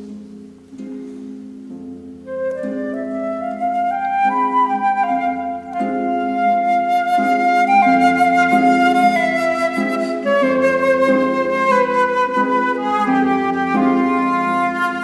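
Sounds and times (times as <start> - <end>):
slow flute melody: 0.0 - 15.0.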